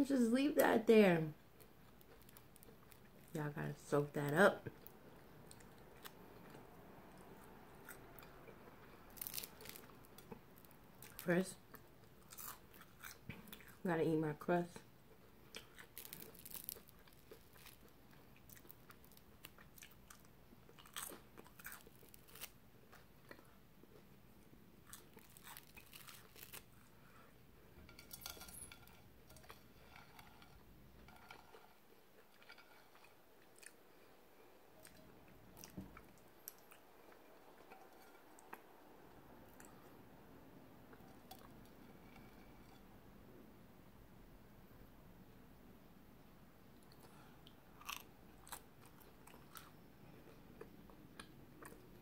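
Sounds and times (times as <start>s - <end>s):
faint crunchy chewing: 1.4s - 3.9s, 4.6s - 13.8s, 14.7s - 40.0s, 40.8s - 42.9s, 46.7s - 52.0s.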